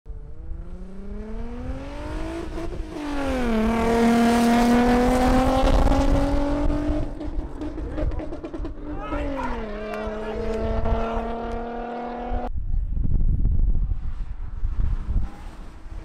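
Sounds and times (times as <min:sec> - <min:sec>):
car engine accelerating: 0:00.1 - 0:12.5, 0:13.8 - 0:16.0.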